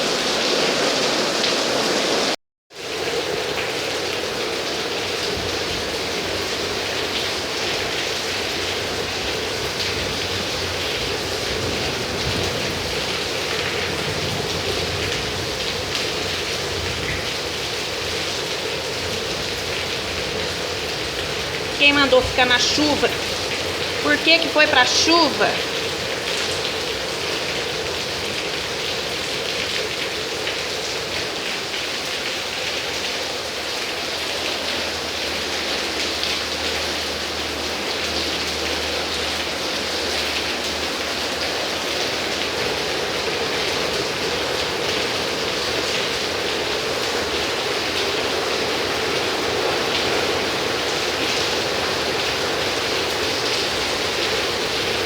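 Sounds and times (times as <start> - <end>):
heavy rain pattering: 0.0 - 55.0.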